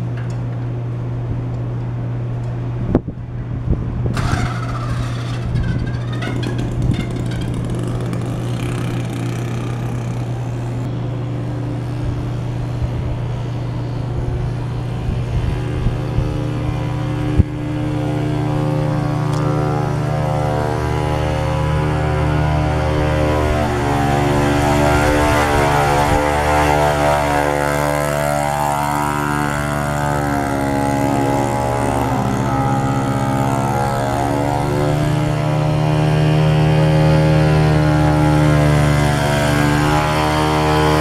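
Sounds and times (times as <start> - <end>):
bicycle motor droning: 4.1 - 41.0.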